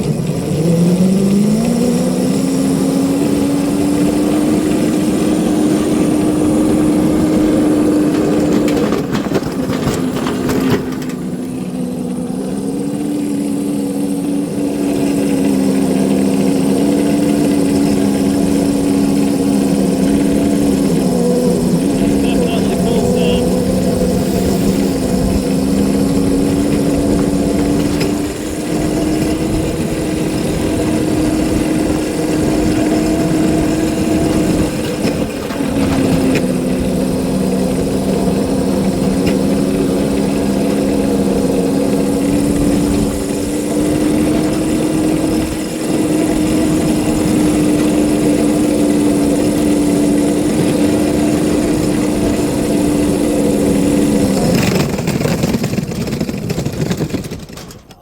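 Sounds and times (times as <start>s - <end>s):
locomotive engine running: 0.0s - 58.0s.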